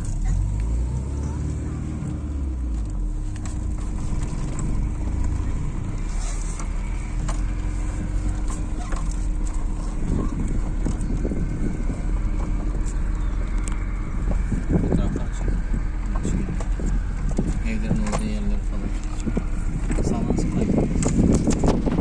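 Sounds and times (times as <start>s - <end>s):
vehicle rumbling on the move: 0.0s - 22.0s.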